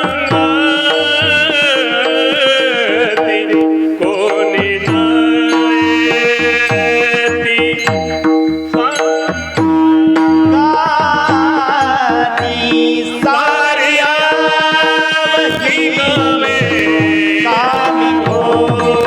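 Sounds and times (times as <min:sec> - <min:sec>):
person singing ornamented melody: 0:00.0 - 0:19.0
tabla strokes: 0:00.0 - 0:19.0.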